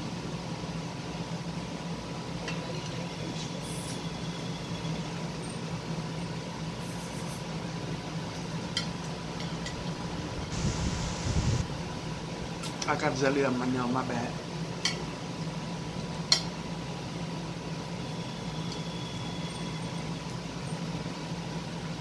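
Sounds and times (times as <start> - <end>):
appliance humming: 0.0 - 22.0.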